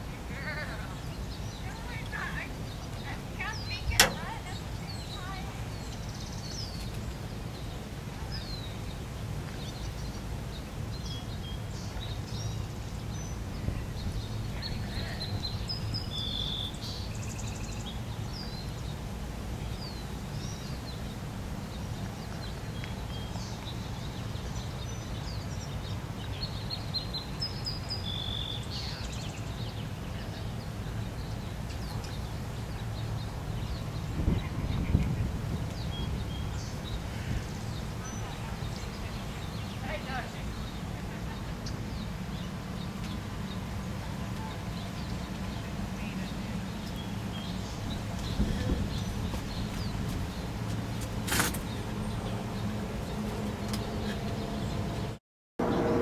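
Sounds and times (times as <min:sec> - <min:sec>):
small birds chirping and singing: 0:00.0 - 0:56.0.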